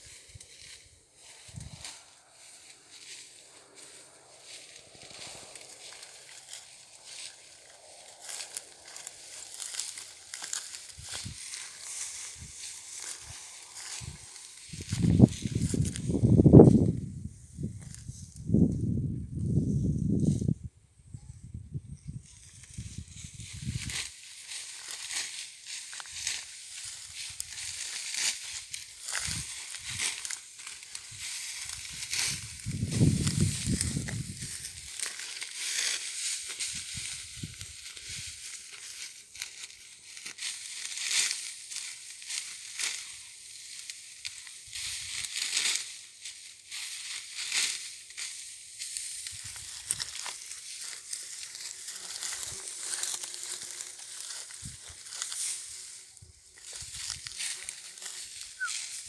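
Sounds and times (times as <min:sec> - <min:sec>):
dry stalks crackling and rustling: 0:00.0 - 0:20.6, 0:21.9 - 0:59.0.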